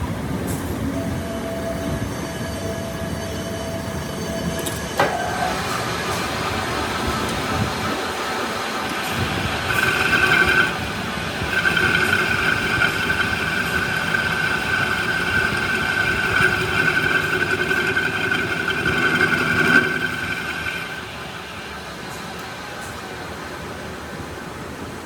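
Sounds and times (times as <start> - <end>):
workshop machine whining: 0.0 - 23.5.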